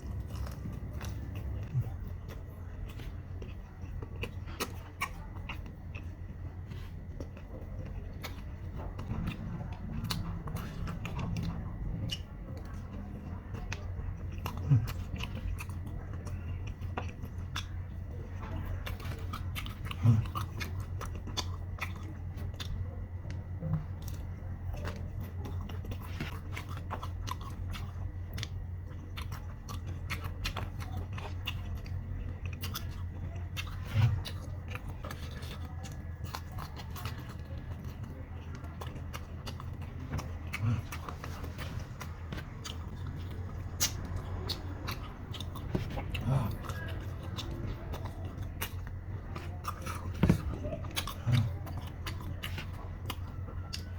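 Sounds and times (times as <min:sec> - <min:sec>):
chewing and crunching fried chicken: 0:00.0 - 0:53.9
steady low hum: 0:00.0 - 0:53.9.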